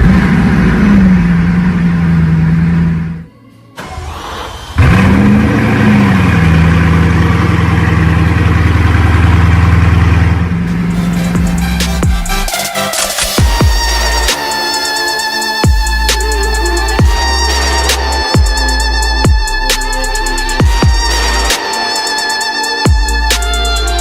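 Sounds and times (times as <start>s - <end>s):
car engine starting and idling: 0.0s - 24.0s.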